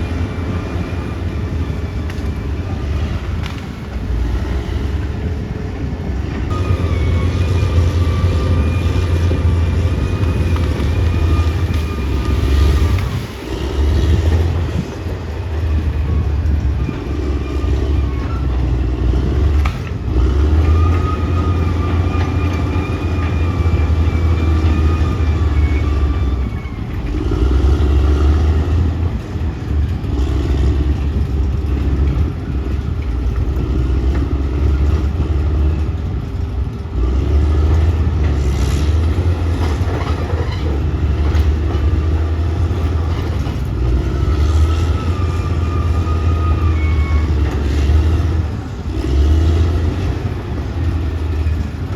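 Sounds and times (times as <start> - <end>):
bulldozer diesel engine rumbling: 0.0 - 51.9.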